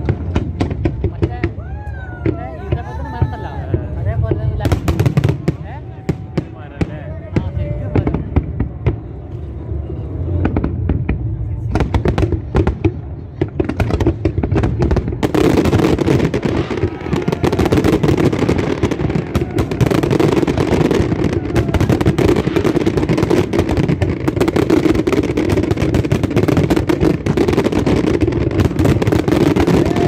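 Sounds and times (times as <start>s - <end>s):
fireworks exploding: 0.0s - 30.0s.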